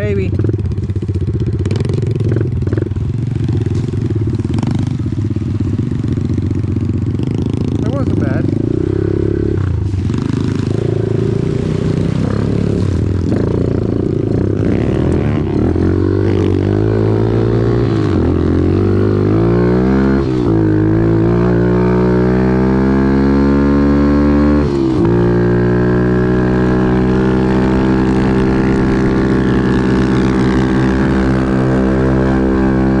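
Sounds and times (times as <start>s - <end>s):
off-road vehicle engine revving: 0.0s - 5.3s, 6.1s - 33.0s.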